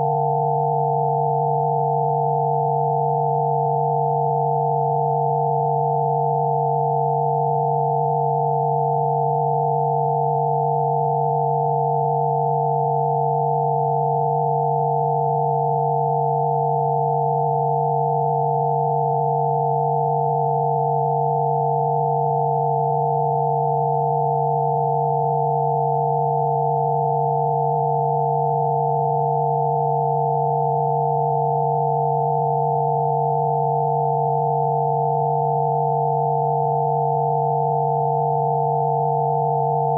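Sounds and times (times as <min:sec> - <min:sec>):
pure electronic sine tones: 0:00.0 - 0:39.9.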